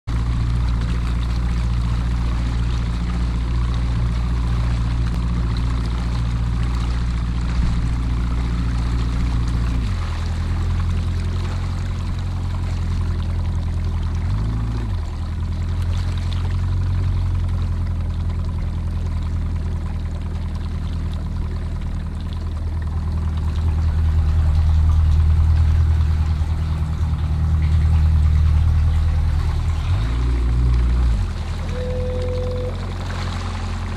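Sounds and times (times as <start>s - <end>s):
outboard motor humming: 0.0s - 33.9s.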